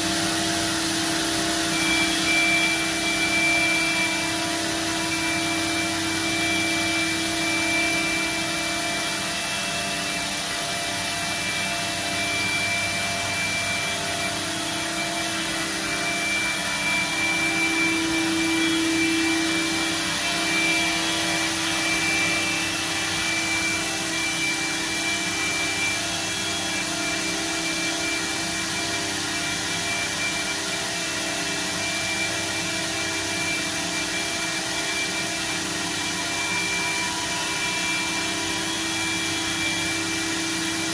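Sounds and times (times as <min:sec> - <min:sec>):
cnc router machinery whirring: 0:00.0 - 0:40.9
high whine: 0:00.0 - 0:40.9
vacuum pumps: 0:00.0 - 0:40.9.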